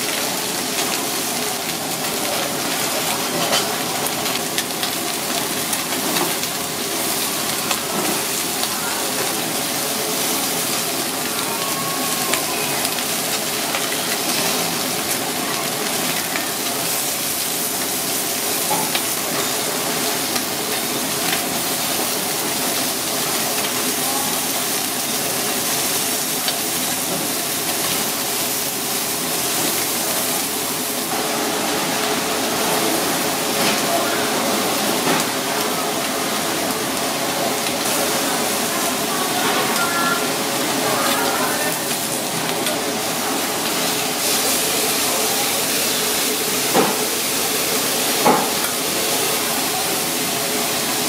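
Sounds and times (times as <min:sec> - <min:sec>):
crab sizzling in oil: 0:00.0 - 0:51.0.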